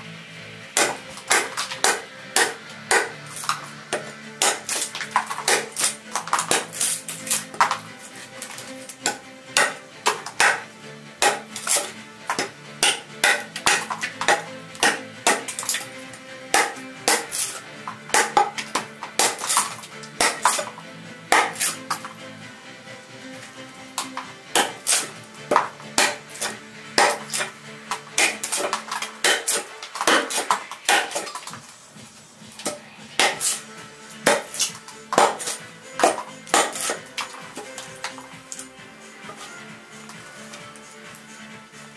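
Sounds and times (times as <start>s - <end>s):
background music: 0.0s - 41.9s
knife chopping: 0.8s - 7.8s, 8.4s - 15.9s, 16.5s - 22.1s, 24.0s - 31.6s, 32.5s - 38.6s.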